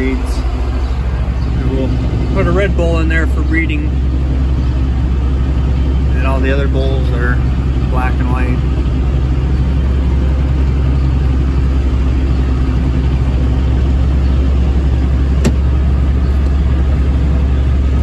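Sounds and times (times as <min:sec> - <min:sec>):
feed mixer engine drone: 0:00.0 - 0:18.0.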